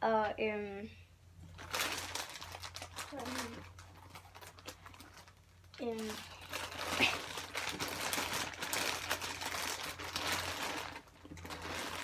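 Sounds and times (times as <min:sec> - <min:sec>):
crinkling and rustling: 0:01.4 - 0:12.0.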